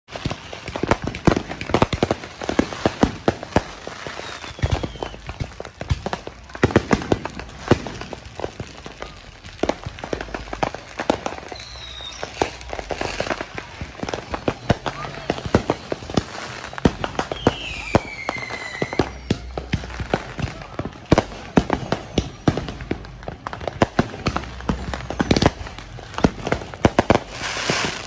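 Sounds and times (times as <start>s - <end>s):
fireworks bangs and crackling pops: 0.1s - 28.0s.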